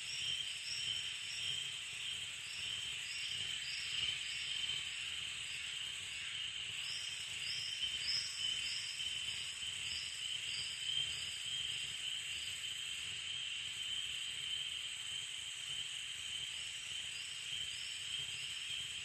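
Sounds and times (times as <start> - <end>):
high-pitched hiss: 0.0 - 19.0
insect-like chirps: 0.1 - 19.0.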